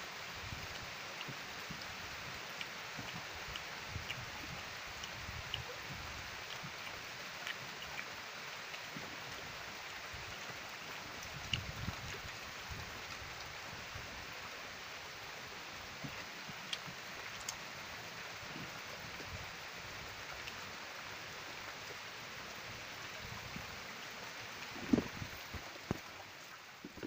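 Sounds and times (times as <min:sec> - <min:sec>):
rain falling on a pond: 0:00.0 - 0:27.0.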